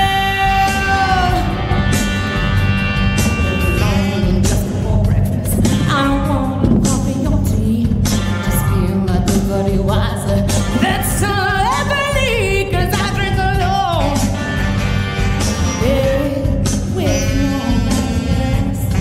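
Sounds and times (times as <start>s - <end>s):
person singing: 0.0s - 14.4s, 15.8s - 19.0s
band with steady low beat: 0.0s - 19.0s.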